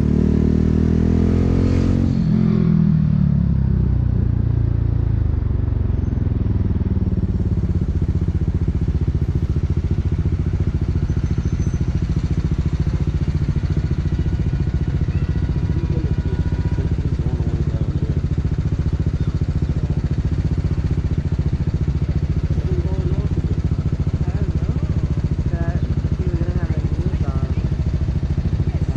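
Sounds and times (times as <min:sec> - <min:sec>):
motorcycle engine exhaust beat: 0:00.0 - 0:28.9.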